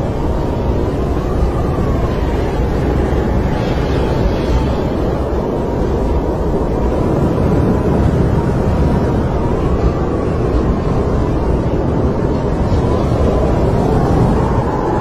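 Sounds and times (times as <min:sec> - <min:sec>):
snowstorm wind rushing: 0:00.0 - 0:15.0.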